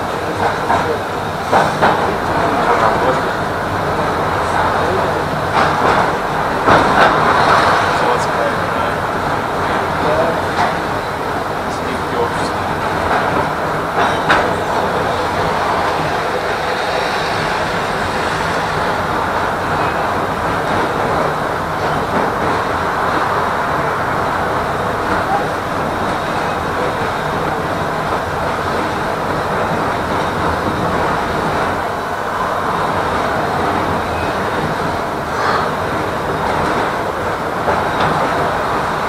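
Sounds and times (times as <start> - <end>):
tram wheels rumbling on rails: 0.0 - 39.0.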